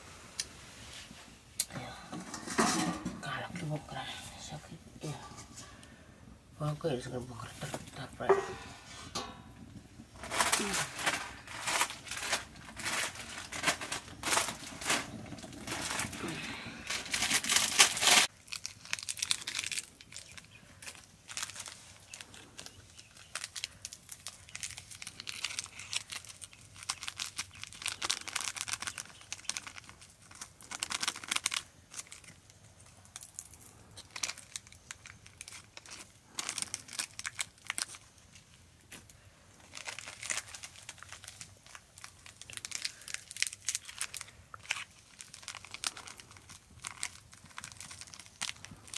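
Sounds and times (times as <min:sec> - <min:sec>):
plastic packets crinkling: 0:07.2 - 0:48.9
dry noodles crunching: 0:08.2 - 0:48.9.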